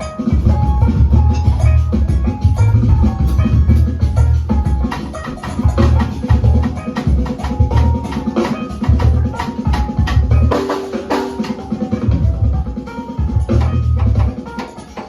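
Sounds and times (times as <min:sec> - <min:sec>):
heavy bass notes: 0:00.0 - 0:08.2, 0:08.8 - 0:10.7, 0:11.9 - 0:14.4
drum kit hitting hard: 0:00.0 - 0:15.0
sustained guitar tones: 0:00.0 - 0:15.0.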